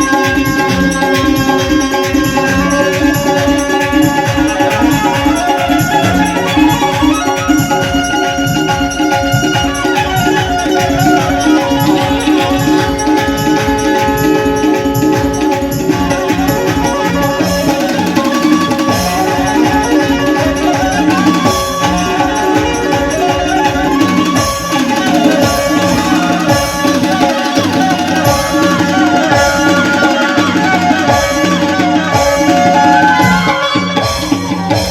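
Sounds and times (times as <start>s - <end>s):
banjo melody: 0.0s - 34.9s
tabla drum rhythm: 0.0s - 34.9s.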